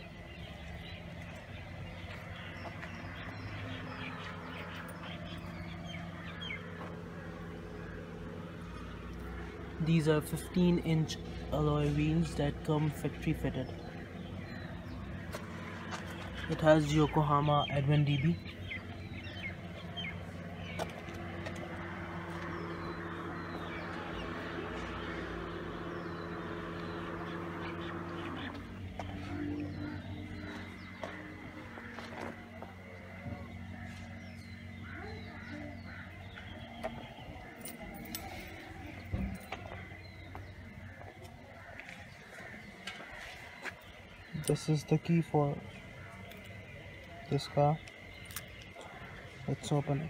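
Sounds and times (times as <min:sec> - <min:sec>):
birds calling: 0:00.0 - 0:50.0
steady low hum: 0:00.0 - 0:50.0.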